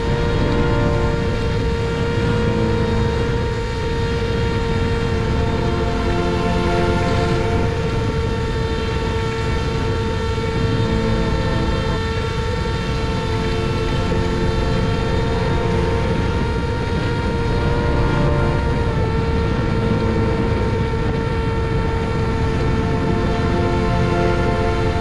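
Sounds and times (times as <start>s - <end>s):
propeller motor whine: 0.0s - 25.0s
wind rushing over microphone: 0.0s - 25.0s.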